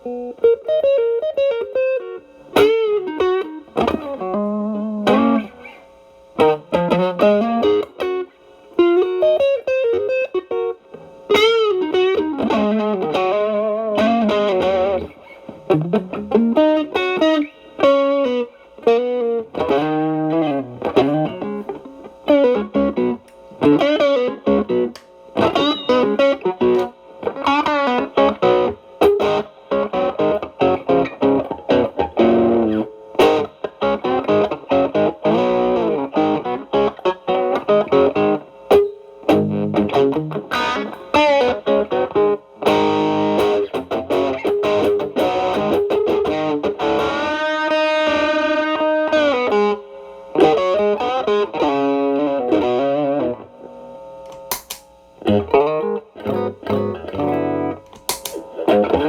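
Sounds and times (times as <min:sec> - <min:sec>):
overdriven electric guitar lead: 0:00.0 - 0:59.0.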